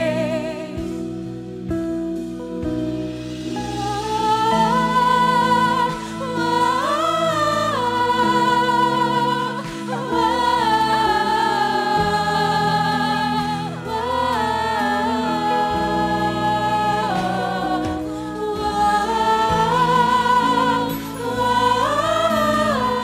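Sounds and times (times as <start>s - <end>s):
group singing gospel in harmony: 0.0s - 1.4s, 3.1s - 23.0s.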